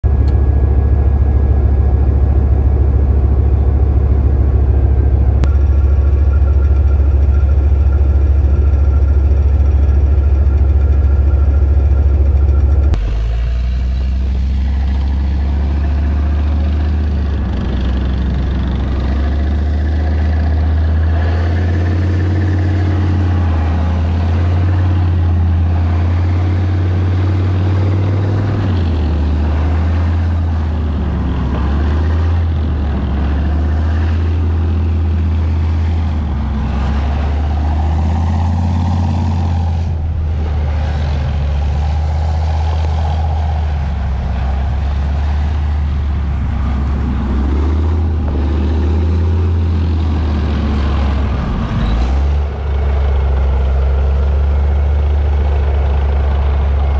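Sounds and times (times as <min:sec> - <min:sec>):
tank diesel engine droning: 0:00.0 - 0:56.9
tank engine while driving: 0:00.0 - 0:56.9.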